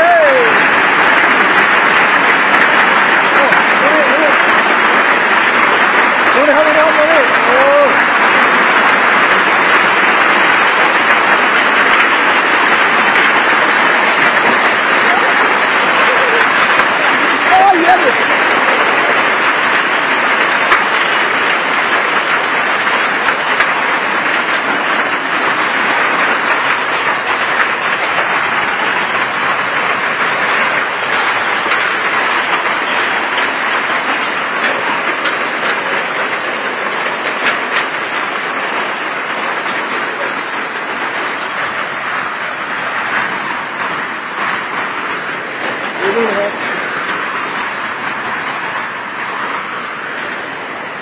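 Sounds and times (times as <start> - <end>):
hail and rain falling hard: 0.0 - 51.0.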